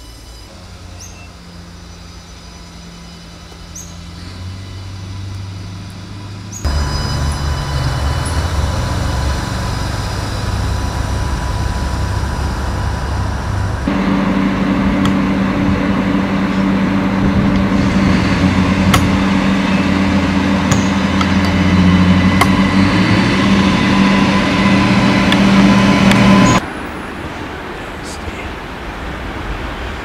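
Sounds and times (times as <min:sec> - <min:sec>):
diesel railcar rumble: 0:00.0 - 0:30.0.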